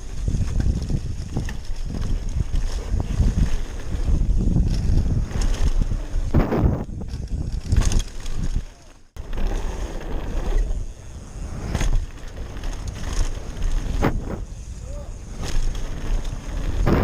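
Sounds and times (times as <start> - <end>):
wind buffeting microphone: 0.0 - 8.8, 10.2 - 17.0
mountain bike rumbling on dirt trail: 0.0 - 17.0.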